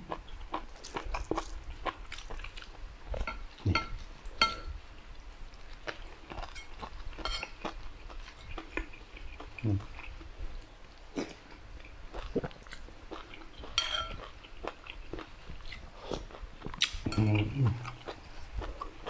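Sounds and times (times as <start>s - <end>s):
man chewing: 0.0s - 4.5s, 5.2s - 19.0s.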